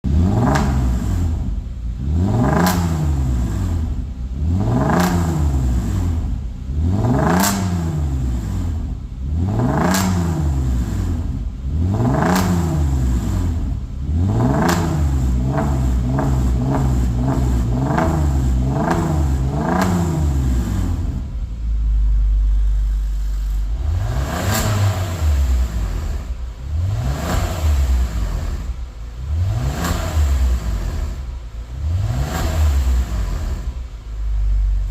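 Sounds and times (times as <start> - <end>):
car engine revving: 0.0 - 34.9
engine idle rumble: 0.0 - 34.9.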